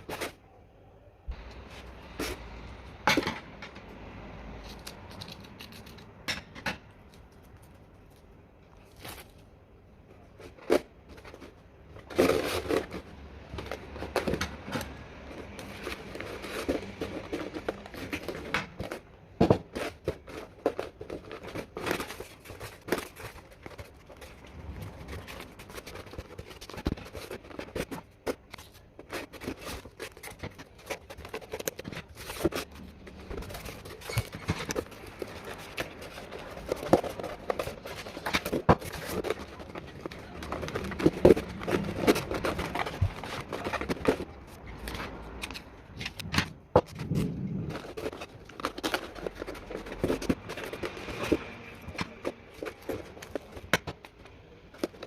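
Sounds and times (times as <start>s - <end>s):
objects clicking and scraping: 1.3s - 55.0s.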